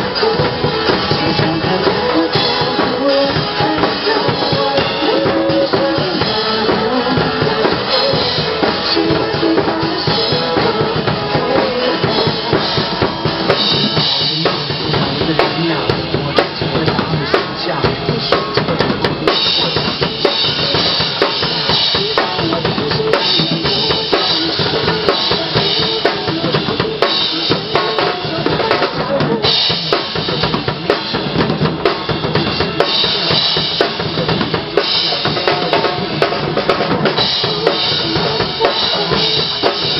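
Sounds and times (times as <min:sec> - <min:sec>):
drum kit played hard: 0:00.0 - 0:39.9
held instrument tones: 0:00.0 - 0:39.9.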